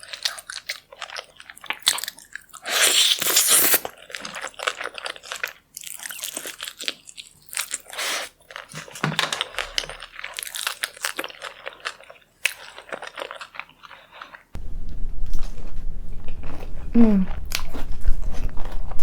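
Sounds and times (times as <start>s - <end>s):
person crunching and chewing food: 0.0s - 19.0s.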